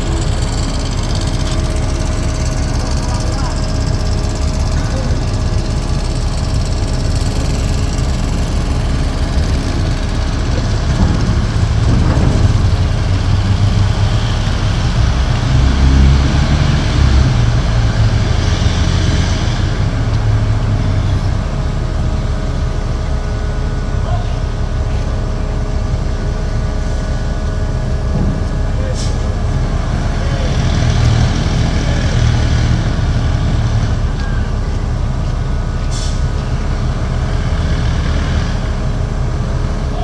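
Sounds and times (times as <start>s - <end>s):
diesel truck engines rumbling: 0.0s - 40.0s.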